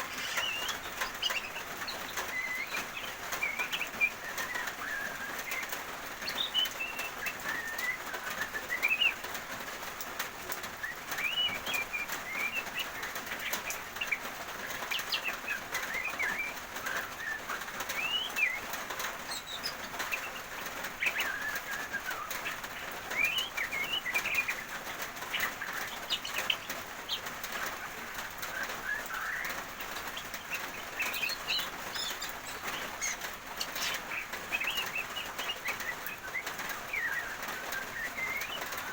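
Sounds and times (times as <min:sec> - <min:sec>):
songbirds chirping: 0:00.0 - 0:38.9
steady rain hiss: 0:00.0 - 0:38.9.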